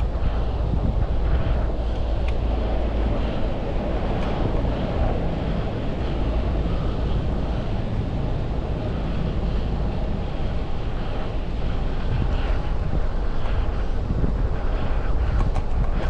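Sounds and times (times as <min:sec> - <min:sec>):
road and traffic rumble: 0:00.0 - 0:16.0
wind rush on microphone: 0:00.0 - 0:16.0.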